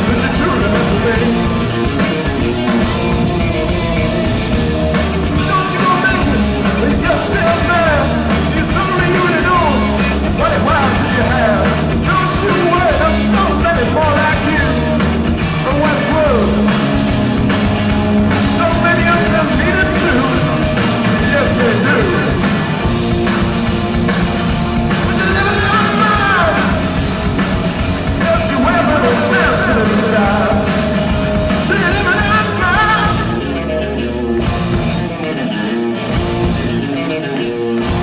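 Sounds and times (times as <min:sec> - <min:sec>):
electric guitar lead line: 0:00.0 - 0:38.0
live rock band playing: 0:00.0 - 0:38.0.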